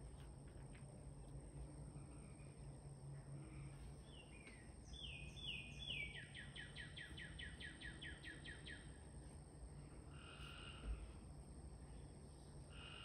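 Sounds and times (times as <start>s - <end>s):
songbird singing faintly: 0.0s - 13.0s.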